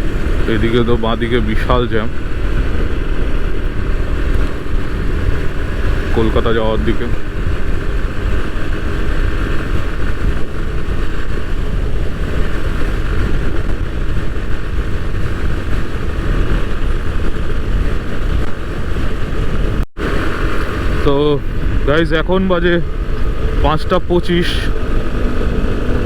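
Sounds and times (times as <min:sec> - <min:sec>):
motorcycle engine rumbling: 0:00.0 - 0:26.0
wind rushing over microphone: 0:00.0 - 0:26.0.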